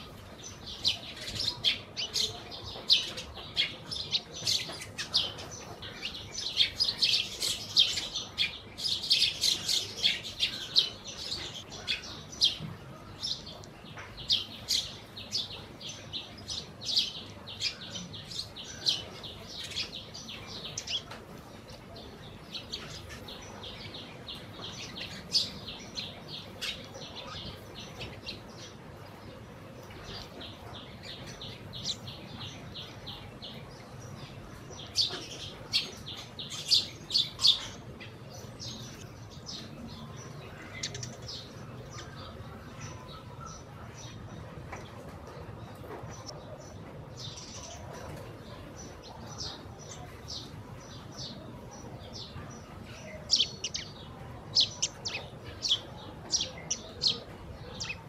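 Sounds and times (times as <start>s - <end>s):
sparrows chirping: 0.0s - 58.0s.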